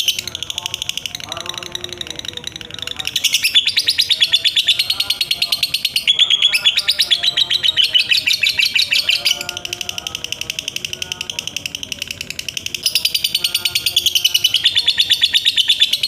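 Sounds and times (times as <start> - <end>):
lovebird trilling chatter: 0.0 - 16.0.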